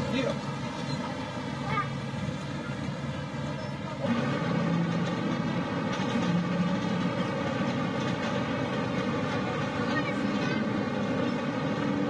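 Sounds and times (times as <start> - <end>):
heavy machinery droning: 0.0 - 12.0.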